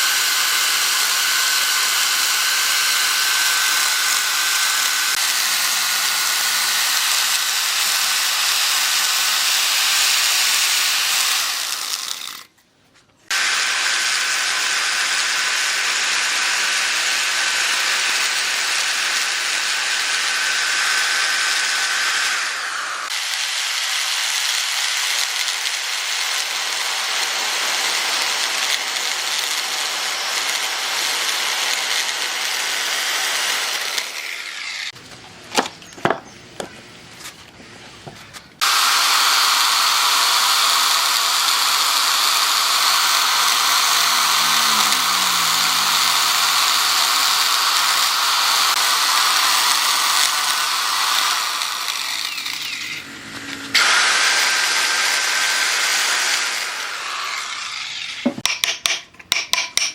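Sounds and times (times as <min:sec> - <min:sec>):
power tool running on wood: 0:00.0 - 0:12.5, 0:13.3 - 0:35.0, 0:38.6 - 0:58.5.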